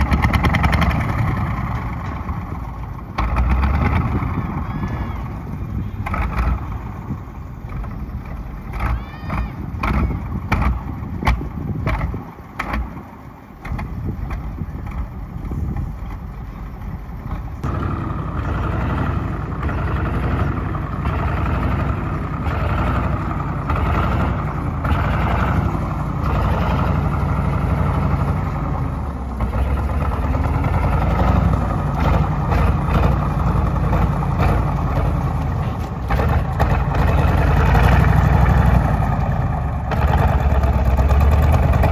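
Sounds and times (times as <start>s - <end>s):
tank diesel engine running: 0.0s - 41.9s.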